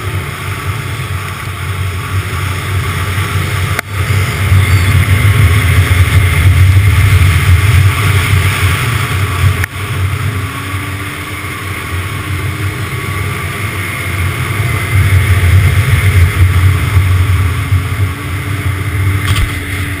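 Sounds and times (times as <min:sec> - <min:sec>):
snowmobile engine droning: 0:00.0 - 0:20.0.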